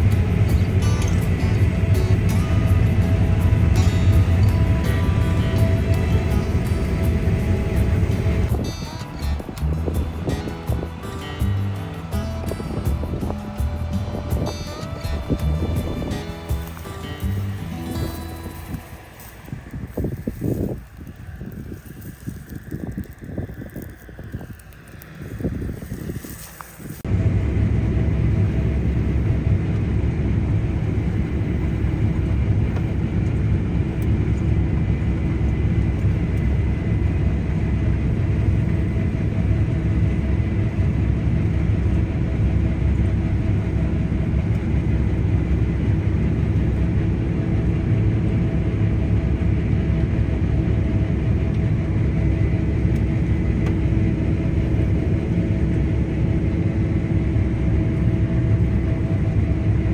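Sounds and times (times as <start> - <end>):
combine harvester running: 0.0 - 59.9
faint high whine: 0.0 - 59.9.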